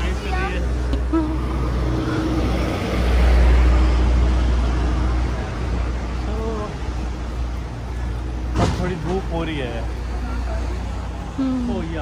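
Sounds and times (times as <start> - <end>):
traffic passing on road: 0.0 - 12.0.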